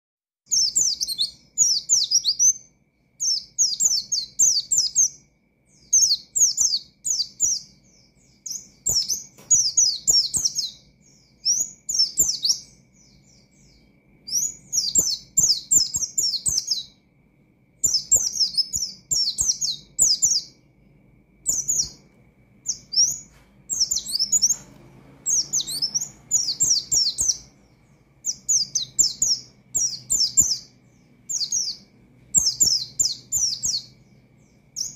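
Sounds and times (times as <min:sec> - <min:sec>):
bird singing rapid high notes: 0:00.5 - 0:34.9.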